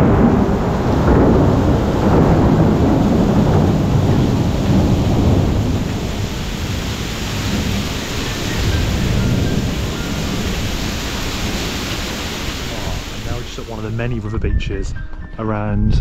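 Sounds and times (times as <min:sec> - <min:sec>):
heavy rain pouring: 0:00.0 - 0:14.3
deep steady rumble: 0:00.0 - 0:14.8.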